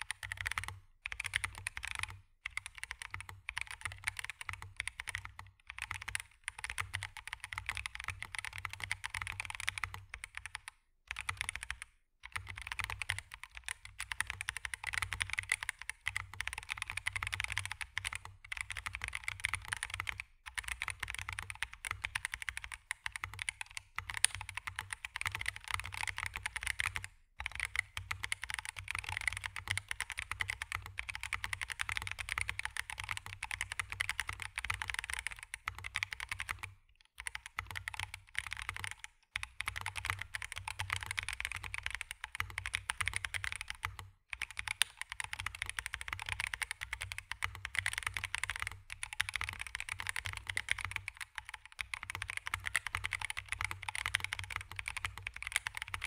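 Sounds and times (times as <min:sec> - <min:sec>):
typing on mechanical keyboard: 0:00.0 - 0:56.0.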